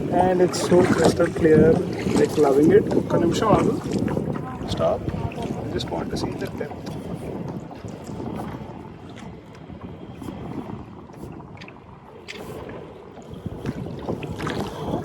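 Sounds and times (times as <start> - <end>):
water sloshing against canoe hull: 0.0 - 15.0
wind buffeting microphone: 0.0 - 15.0.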